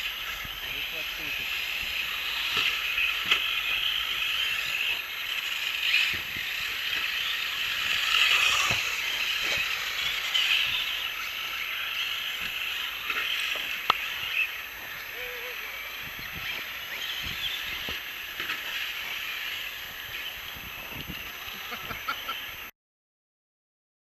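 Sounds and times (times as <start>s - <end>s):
distant rc cars running: 0.0s - 22.7s.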